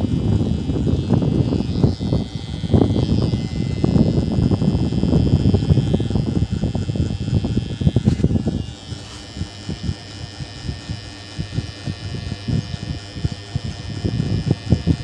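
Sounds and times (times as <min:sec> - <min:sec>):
electric hair clippers humming: 0:00.0 - 0:15.0.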